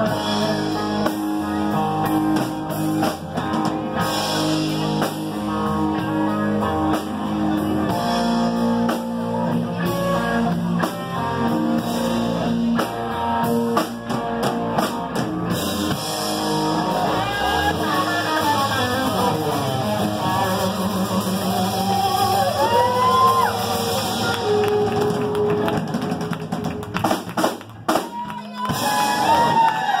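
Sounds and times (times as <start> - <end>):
electric guitar lead lines: 0.0 - 27.0
drums and cymbals: 0.0 - 30.0.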